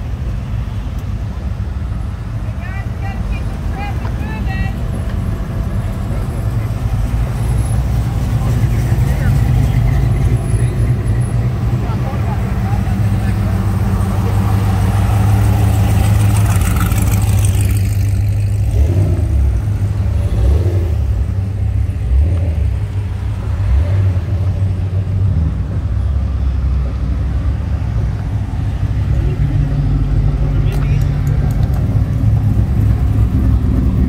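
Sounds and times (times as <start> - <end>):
vehicle engines rumbling past: 0.0 - 34.0.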